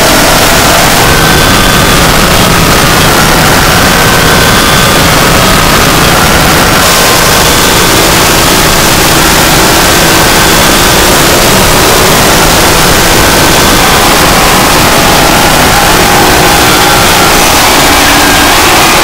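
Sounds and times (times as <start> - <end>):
harsh noise static: 0.0 - 19.0.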